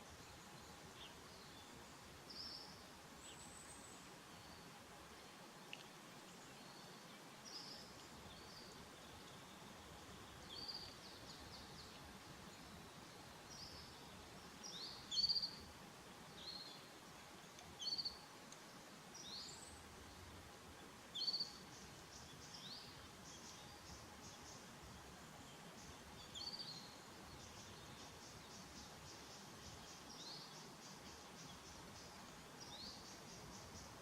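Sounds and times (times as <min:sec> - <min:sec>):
faint outdoor hiss: 0:00.0 - 0:34.0
small birds chirping: 0:00.0 - 0:34.0.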